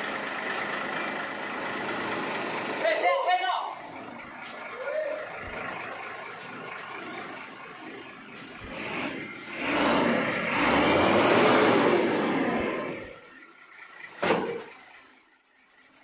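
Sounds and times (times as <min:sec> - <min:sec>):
diesel truck pulling away: 0:00.0 - 0:16.0.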